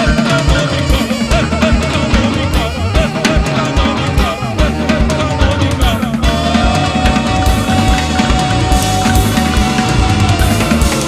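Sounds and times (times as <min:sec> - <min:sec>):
heavy drumming: 0:00.0 - 0:11.0
live punk rock band: 0:00.0 - 0:11.0.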